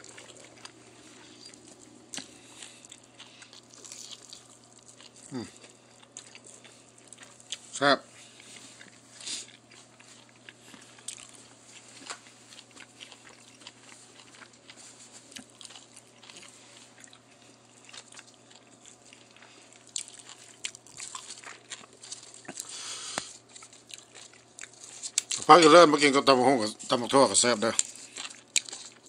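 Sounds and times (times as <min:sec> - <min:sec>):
person chewing food: 0:00.0 - 0:25.5, 0:26.8 - 0:29.0.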